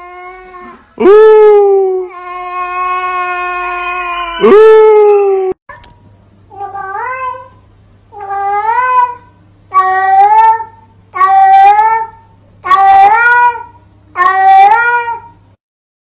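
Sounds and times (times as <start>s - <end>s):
faint low hum: 0.0s - 15.6s.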